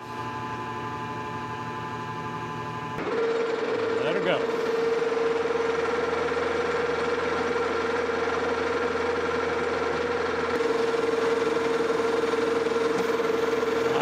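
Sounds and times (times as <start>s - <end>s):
metal lathe whining: 0.0s - 14.0s.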